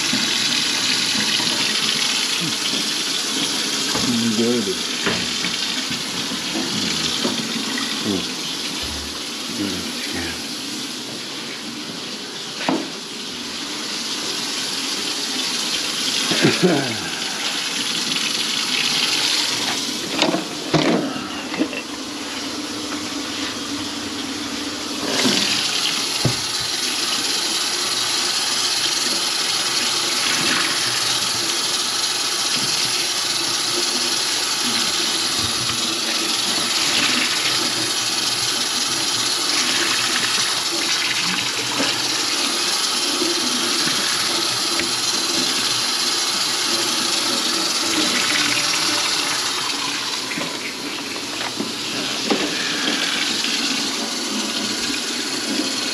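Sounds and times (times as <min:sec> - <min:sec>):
water running from a faucet: 0:00.0 - 0:55.9.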